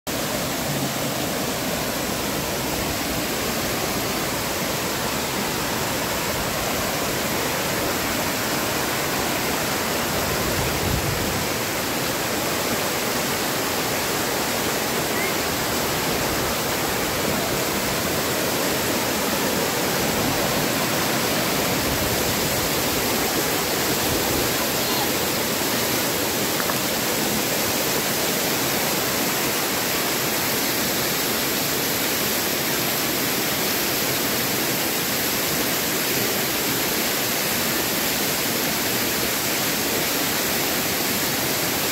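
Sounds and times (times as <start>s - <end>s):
waterfall rushing over rocks: 0.1s - 41.9s.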